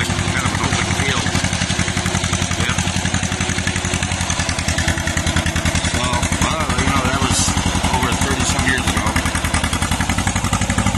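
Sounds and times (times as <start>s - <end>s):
bulldozer engine running: 0.0s - 10.9s.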